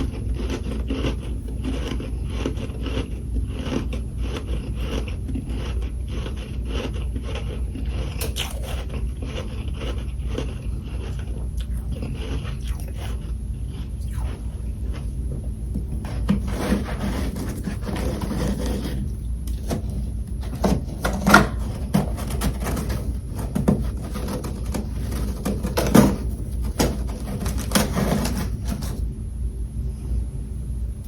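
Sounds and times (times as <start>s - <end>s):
frost crunching being chewed: 0.0s - 29.0s
steady low hum: 0.0s - 31.0s.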